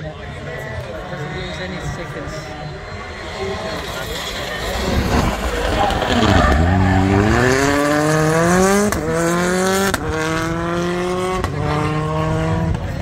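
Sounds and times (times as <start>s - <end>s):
car engine accelerating: 0.1s - 13.0s.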